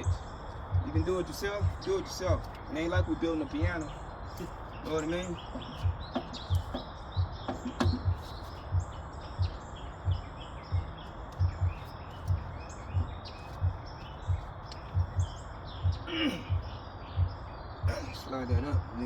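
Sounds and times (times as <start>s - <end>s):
dull low thud: 0.0s - 19.0s
small birds chirping: 0.0s - 19.0s.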